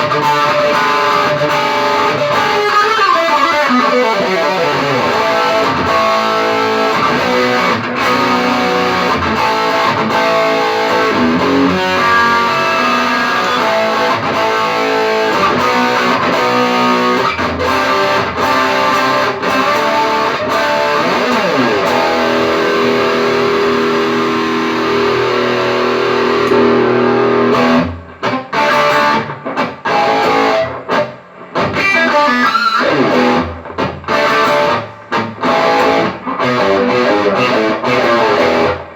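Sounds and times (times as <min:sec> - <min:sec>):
electric guitar: 0:00.0 - 0:38.9.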